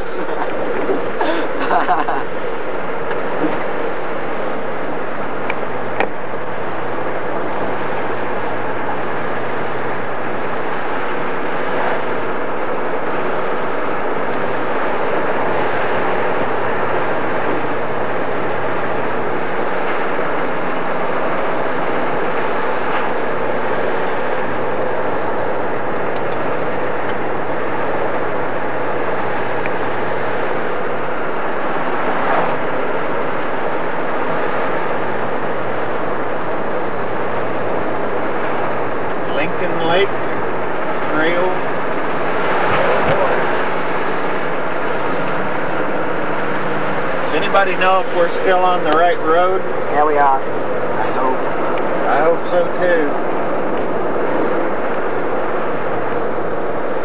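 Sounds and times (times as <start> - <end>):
car cabin road and engine noise: 0.0 - 57.0.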